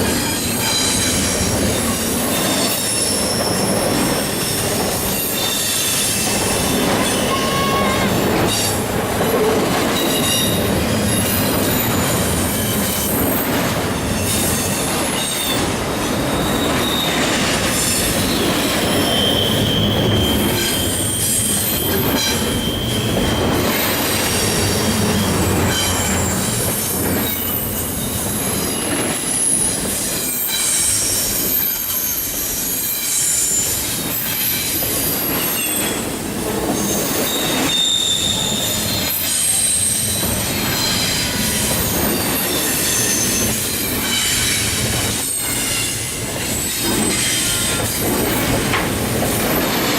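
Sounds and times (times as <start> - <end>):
freight train cars rolling: 0.0 - 49.9
train wheels squealing: 0.0 - 49.9.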